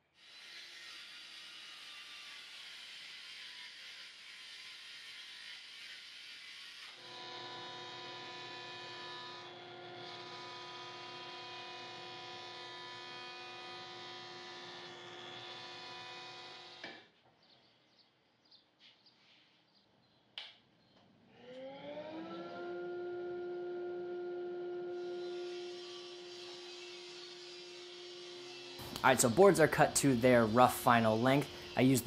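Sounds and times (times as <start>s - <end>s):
table saw motor spinning up: 0.2s - 16.9s, 21.3s - 32.0s
woodworking machine whining: 1.2s - 17.0s, 21.3s - 32.0s.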